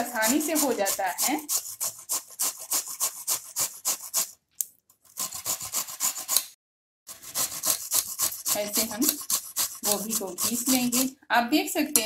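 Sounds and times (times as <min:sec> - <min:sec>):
grater rasping: 0:00.0 - 0:11.2.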